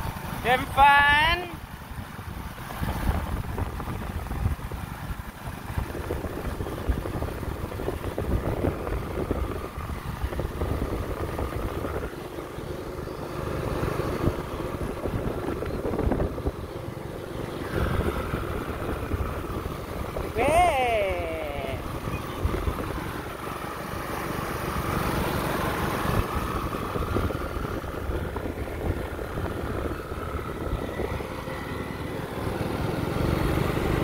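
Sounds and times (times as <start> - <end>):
motor scooter engines running: 0.0 - 34.0
wind buffeting microphone: 2.0 - 23.6, 25.8 - 31.6.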